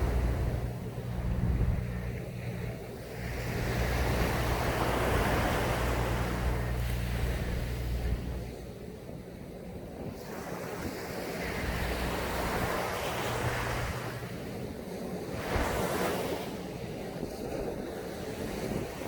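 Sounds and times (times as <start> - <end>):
sea waves breaking on beach: 0.0 - 19.0
wind rumbling on microphone: 0.0 - 19.0.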